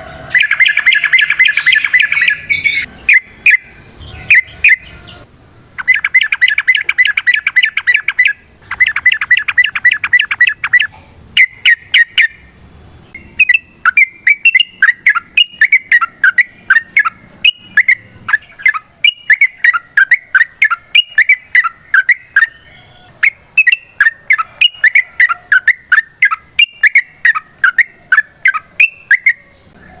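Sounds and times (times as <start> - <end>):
bird chattering trills: 0.0 - 30.0
bird bubbling chirps: 0.3 - 5.0, 5.8 - 12.4, 13.1 - 30.0.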